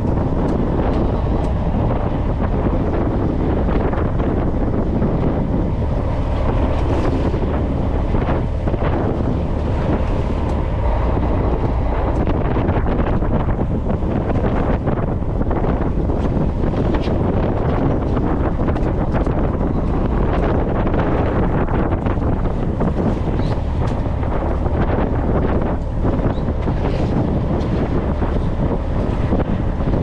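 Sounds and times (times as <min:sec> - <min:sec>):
rush of boat and sea: 0:00.0 - 0:30.0
wind buffeting microphone: 0:00.0 - 0:30.0.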